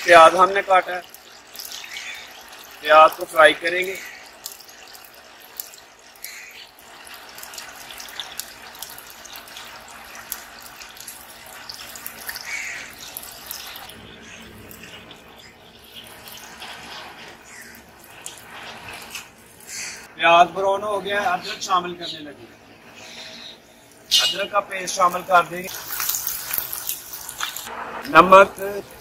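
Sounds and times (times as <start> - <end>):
onions frying in oil: 0.0 - 20.1, 24.6 - 29.0.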